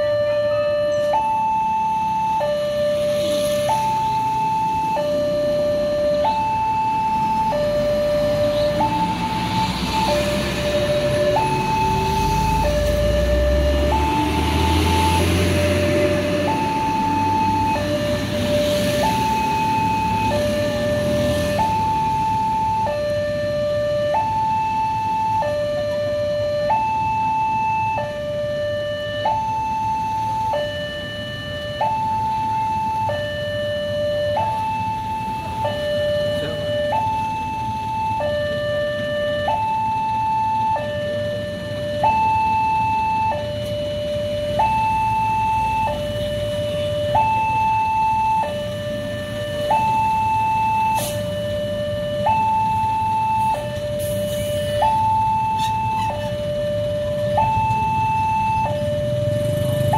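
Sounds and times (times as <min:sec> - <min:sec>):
heavy truck engine rumble: 0:00.0 - 0:59.9
level crossing two-tone alarm: 0:00.0 - 0:59.9.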